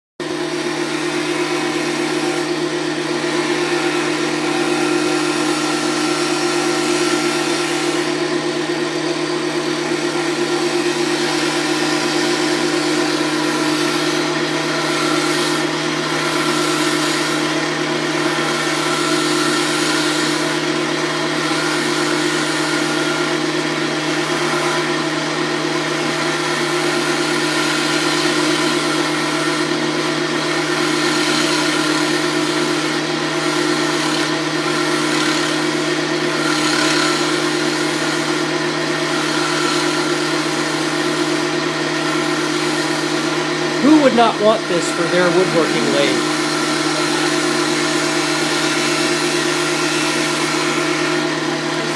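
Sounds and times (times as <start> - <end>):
wood lathe motor humming: 0.2 - 45.0, 46.1 - 51.9.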